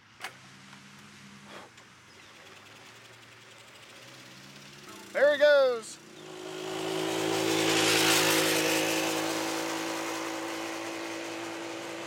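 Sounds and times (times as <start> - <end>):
moped engine passing by: 2.1 - 12.0.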